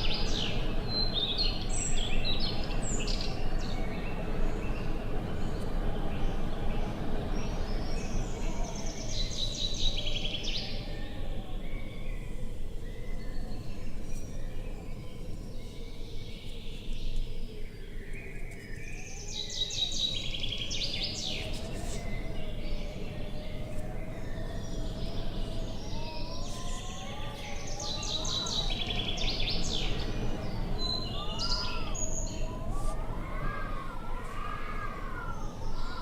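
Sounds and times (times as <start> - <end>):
songbirds singing trills: 0.0 - 36.0
steady wind-like rush: 0.0 - 36.0.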